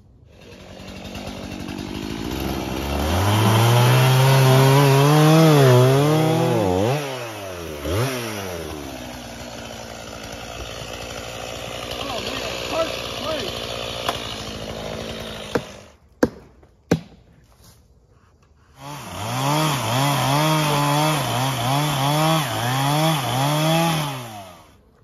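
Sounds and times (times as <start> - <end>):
chainsaw cutting log: 0.2 - 17.3, 18.4 - 25.0.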